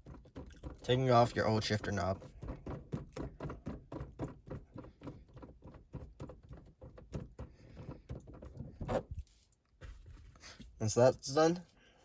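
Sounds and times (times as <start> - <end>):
clicks taps and rubbing: 0.0 - 10.7.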